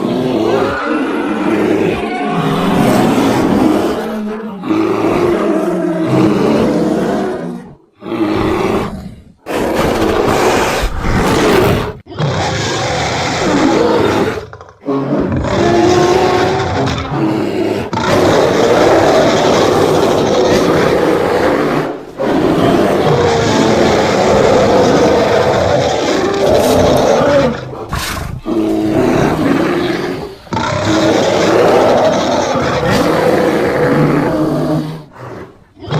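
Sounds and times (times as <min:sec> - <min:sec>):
loud roars: 0:00.0 - 0:35.9.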